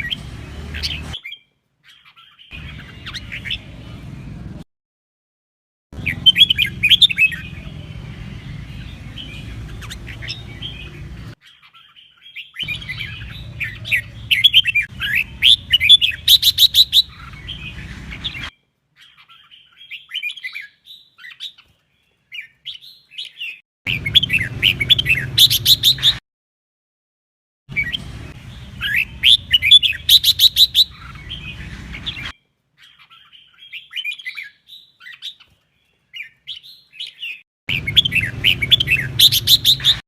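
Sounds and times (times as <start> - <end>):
bird singing warbled phrases: 0.0 - 4.6, 6.0 - 26.2, 27.7 - 40.0.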